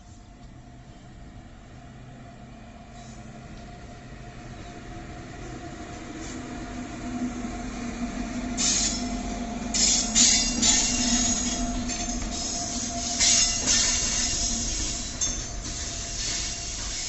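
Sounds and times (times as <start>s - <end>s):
electric locomotive hum: 0.0s - 17.0s
high-pitched wheel-on-rail noise: 2.0s - 17.0s.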